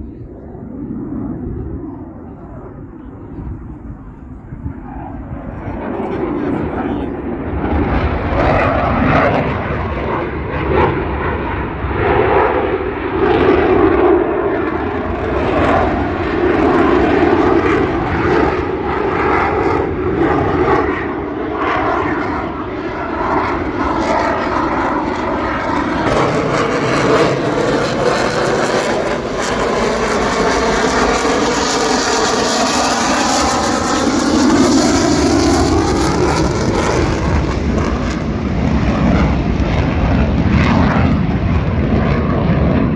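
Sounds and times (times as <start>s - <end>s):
airplane engine flying past: 0.0s - 42.9s.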